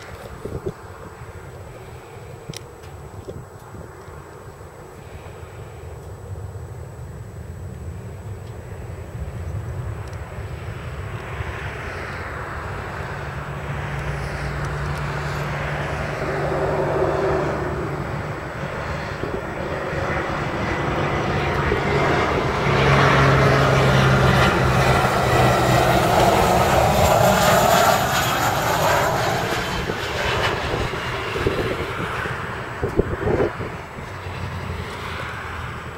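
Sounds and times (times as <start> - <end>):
jet engines passing by: 0.0 - 35.9.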